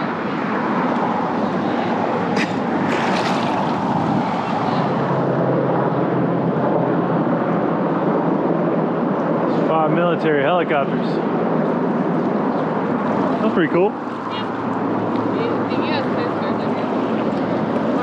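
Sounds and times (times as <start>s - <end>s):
helicopters flying overhead: 0.0s - 18.0s.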